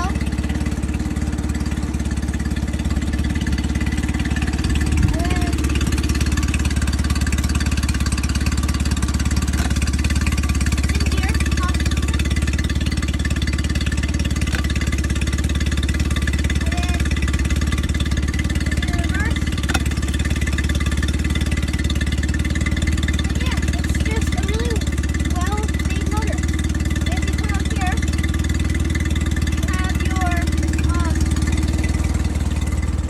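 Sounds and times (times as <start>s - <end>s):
outboard motor idling: 0.0s - 33.0s.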